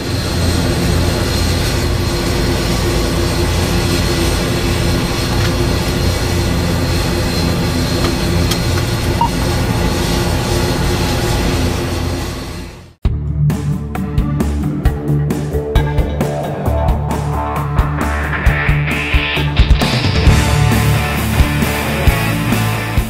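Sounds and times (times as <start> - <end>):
high engine whine: 0.0 - 13.0, 13.6 - 23.0
turboprop engine drone: 0.0 - 23.0.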